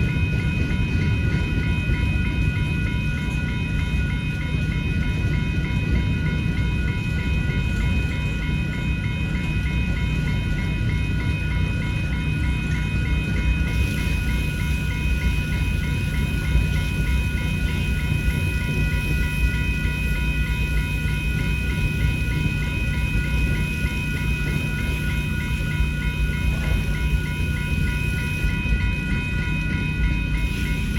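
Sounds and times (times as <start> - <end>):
crossing bells ringing: 0.0 - 30.9
freight train rumbling and clattering: 0.0 - 30.9.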